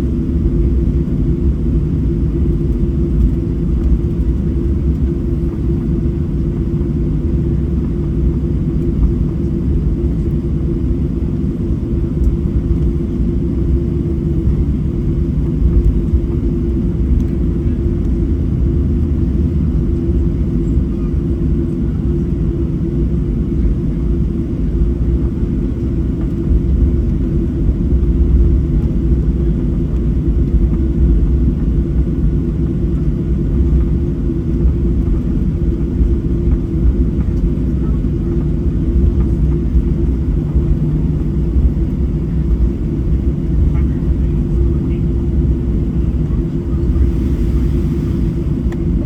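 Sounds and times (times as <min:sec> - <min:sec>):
aircraft cabin engine rumble: 0:00.0 - 0:49.0
constant hum: 0:00.0 - 0:49.0.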